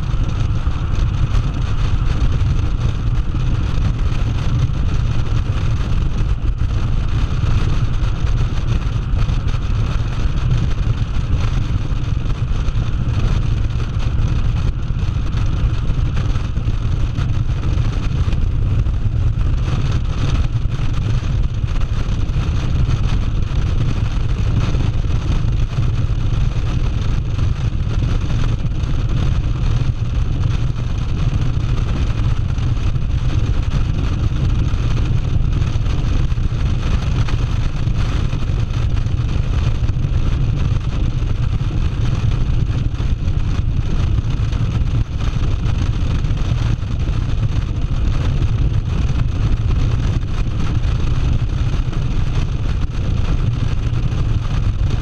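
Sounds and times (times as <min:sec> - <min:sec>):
motorcycle engine rumble: 0:00.0 - 0:55.0
wind rush over microphone: 0:00.0 - 0:55.0.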